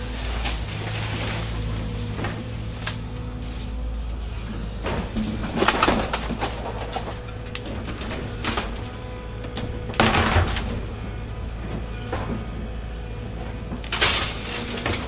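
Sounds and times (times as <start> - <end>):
excavator engine running: 0.0 - 15.0
wood and branches cracking: 0.0 - 15.0.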